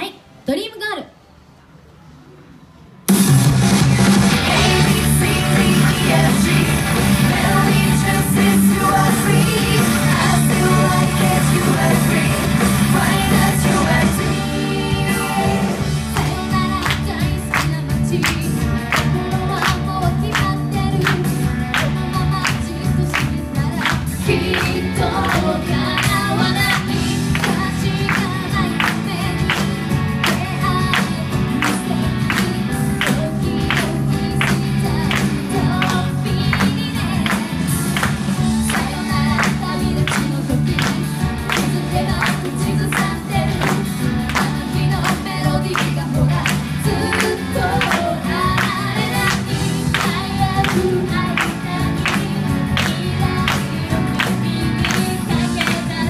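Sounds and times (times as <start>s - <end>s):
upbeat pop backing track: 3.1s - 56.0s
woman singing into microphone: 4.5s - 56.0s.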